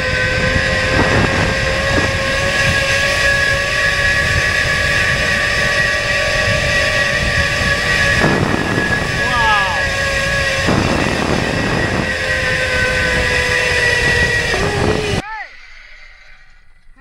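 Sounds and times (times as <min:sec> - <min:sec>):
low rushing noise: 0:00.0 - 0:15.6
drone propellers whining: 0:00.0 - 0:17.0.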